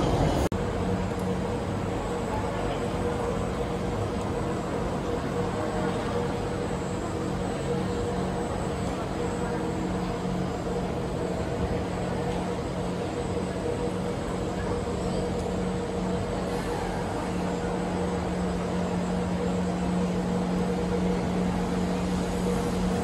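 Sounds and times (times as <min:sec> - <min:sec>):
train equipment humming: 0:00.0 - 0:23.0.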